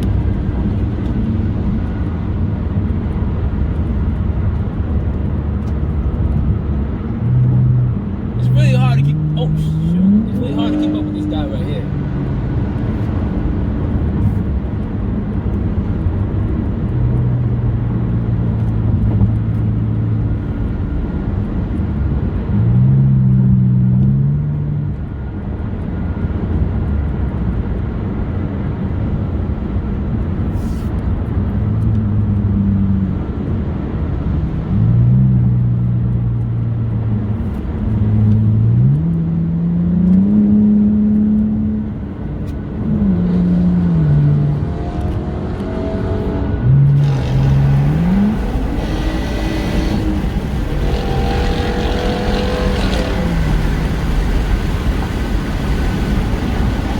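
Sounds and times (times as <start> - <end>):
car engine accelerating: 0.0 - 25.9, 31.2 - 56.9
road and wind noise: 0.0 - 56.9.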